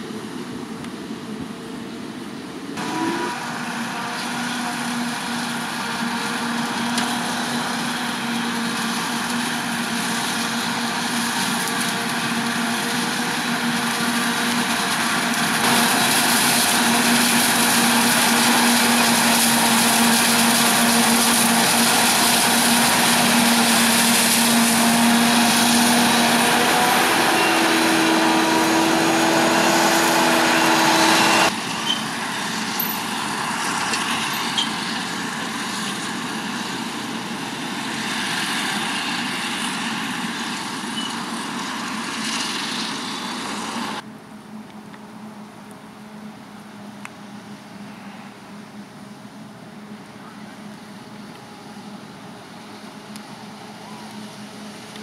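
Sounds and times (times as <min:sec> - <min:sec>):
forage harvester and tractors running: 0:00.0 - 0:55.0.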